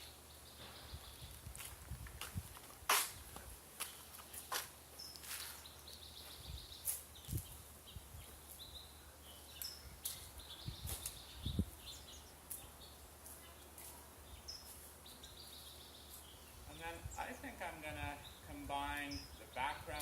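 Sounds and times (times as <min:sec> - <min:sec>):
birds chirping: 0:00.0 - 0:01.8, 0:03.2 - 0:20.0.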